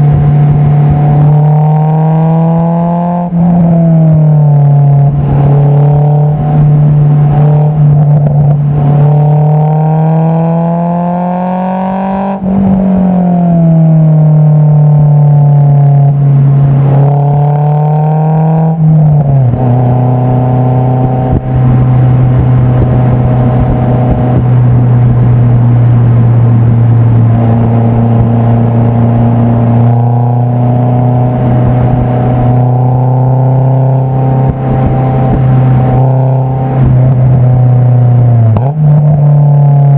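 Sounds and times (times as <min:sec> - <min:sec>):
car exhaust engine revving: 0:00.0 - 0:39.9.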